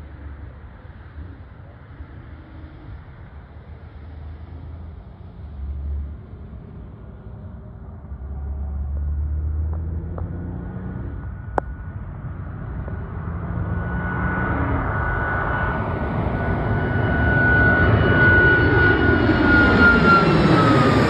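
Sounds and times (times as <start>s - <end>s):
jet engines on takeoff: 0.0s - 21.0s.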